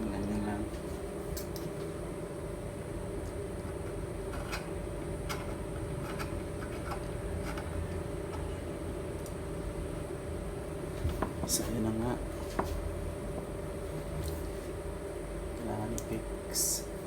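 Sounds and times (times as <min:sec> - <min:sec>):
steady hum and hiss: 0:00.0 - 0:17.0.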